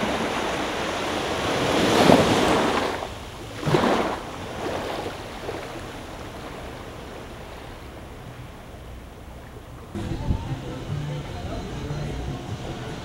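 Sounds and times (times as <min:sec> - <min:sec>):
small waves lapping on beach: 0:00.0 - 0:11.4.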